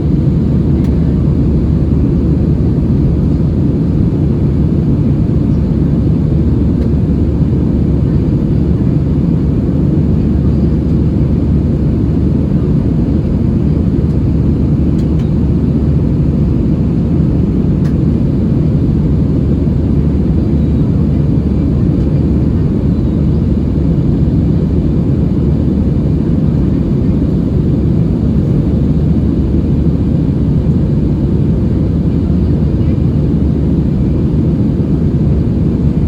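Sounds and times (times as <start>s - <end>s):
airplane cabin roar: 0.0s - 36.0s.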